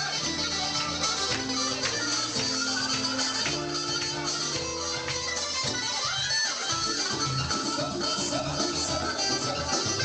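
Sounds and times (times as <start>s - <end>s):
band music with bass and chords: 0.0s - 10.0s.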